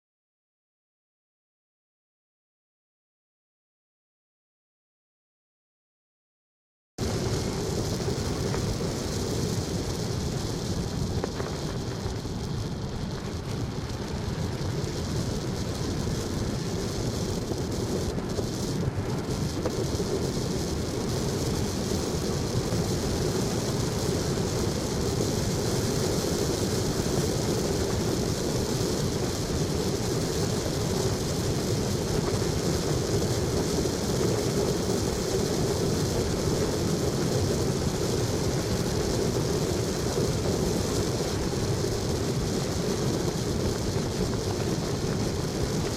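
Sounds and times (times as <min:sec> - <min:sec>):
vehicle road and engine noise: 0:07.0 - 0:45.9.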